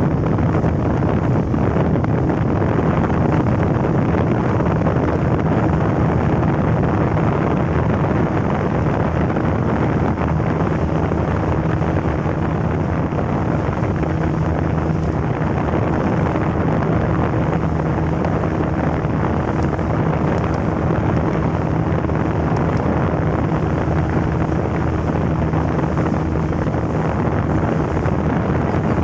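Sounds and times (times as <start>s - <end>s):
outboard motor running: 0.0s - 29.0s
wind noise on microphone: 0.0s - 29.0s.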